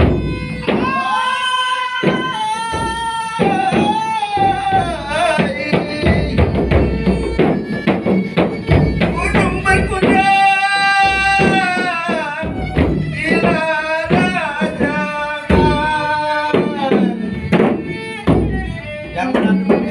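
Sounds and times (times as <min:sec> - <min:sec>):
drum strokes: 0:00.0 - 0:19.9.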